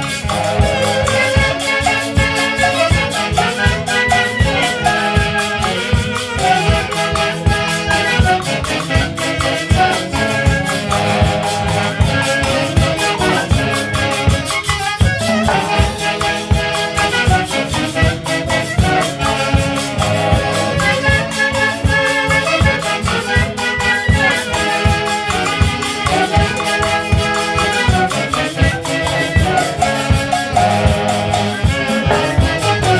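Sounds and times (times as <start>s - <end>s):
percussion beat: 0.0s - 32.9s
wind instruments playing melody: 0.0s - 32.9s.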